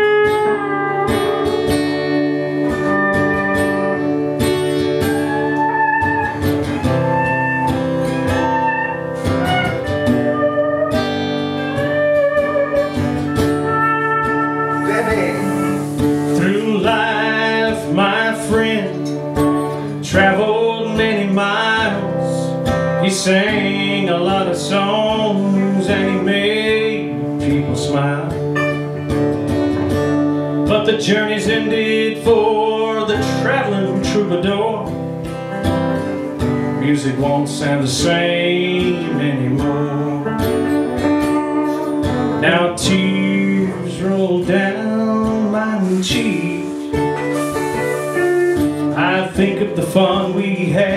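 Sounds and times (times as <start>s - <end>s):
acoustic guitar strumming: 0.0s - 50.9s
electric guitar lead lines: 0.0s - 50.9s.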